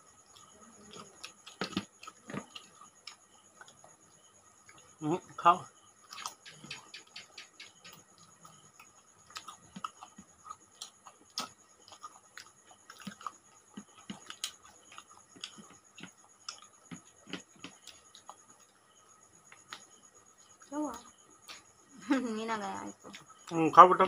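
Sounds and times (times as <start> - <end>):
mouths chewing and smacking: 0.2 - 5.4, 6.0 - 21.9.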